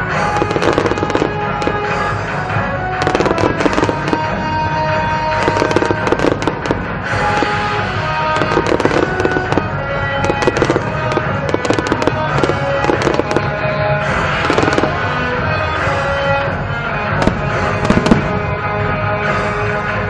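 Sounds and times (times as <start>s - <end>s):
fireworks cracking and popping: 0.0s - 16.2s, 17.1s - 18.8s
music playing: 0.0s - 20.0s.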